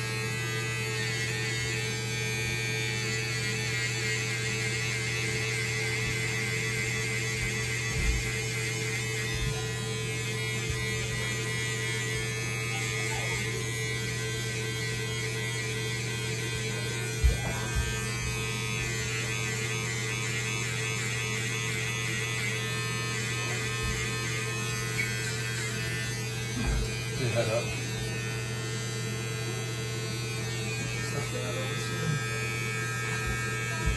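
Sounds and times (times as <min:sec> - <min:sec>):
electric hair clippers buzzing: 0:00.0 - 0:33.9.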